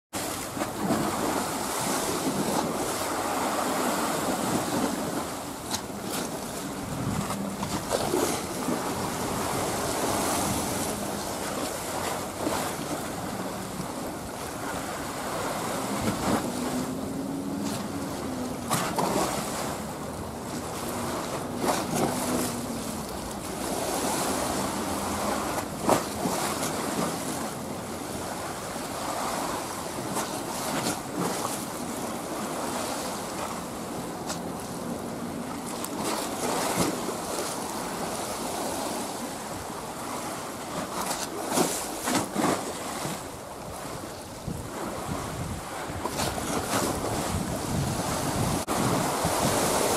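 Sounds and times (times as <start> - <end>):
choppy sea water: 0.1 - 49.9
wind buffeting microphone: 0.5 - 40.4, 42.9 - 49.9.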